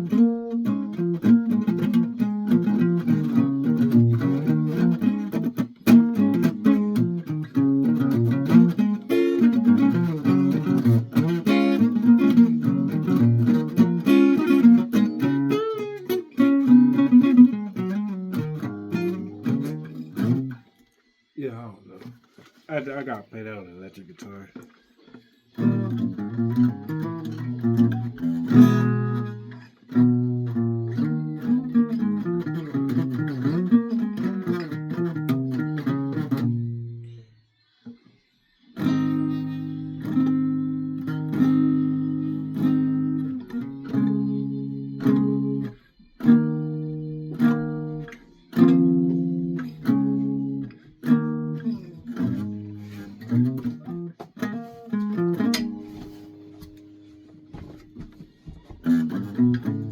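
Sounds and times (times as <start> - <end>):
guitar playing: 0.0 - 38.0, 38.6 - 59.9.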